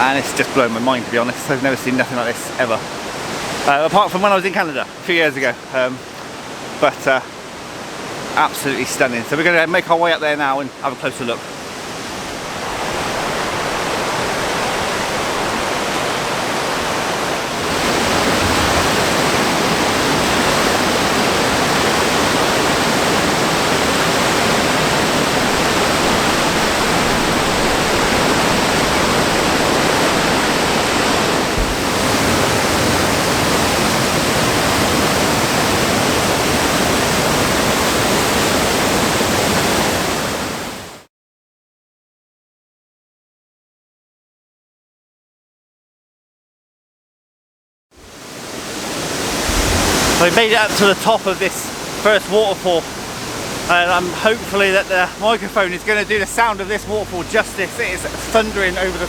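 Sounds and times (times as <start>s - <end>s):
waterfall rushing: 0.0s - 41.0s, 48.1s - 59.0s.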